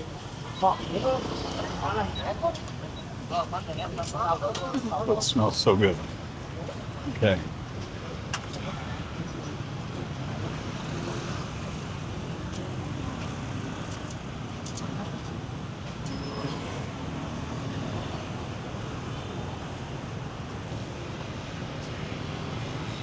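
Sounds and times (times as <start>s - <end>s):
faint crowd chatter: 0.0s - 23.0s
road traffic and motorbikes: 0.0s - 23.0s.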